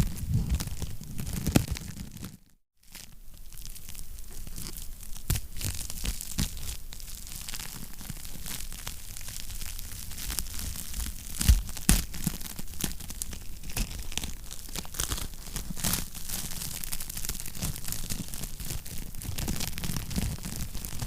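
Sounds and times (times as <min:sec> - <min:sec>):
wood fire crackling: 0:03.2 - 0:21.0.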